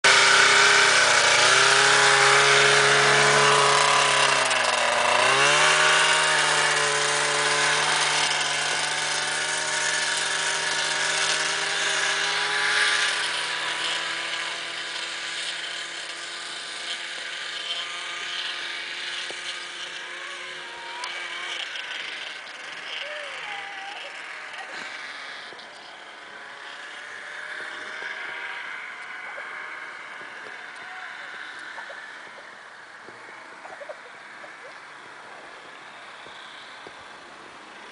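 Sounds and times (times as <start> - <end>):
snowmobile engine running: 0.0 - 37.9.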